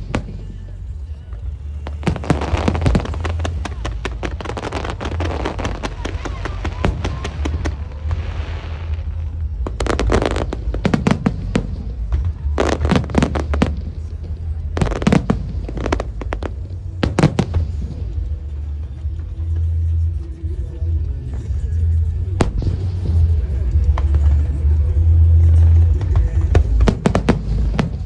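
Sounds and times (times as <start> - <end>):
fireworks bangs and crackles: 0.0 - 28.0
steady low rumble: 0.0 - 28.0.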